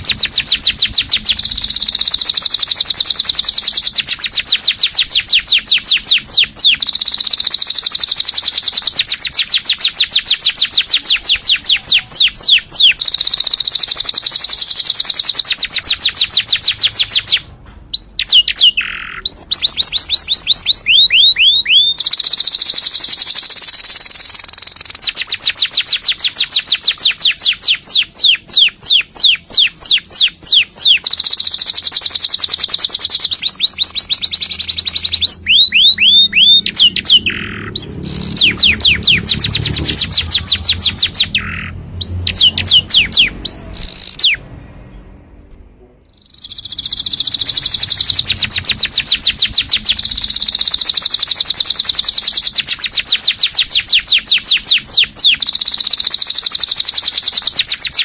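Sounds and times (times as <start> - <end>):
canary singing trills: 0.0 - 45.2, 46.1 - 58.0.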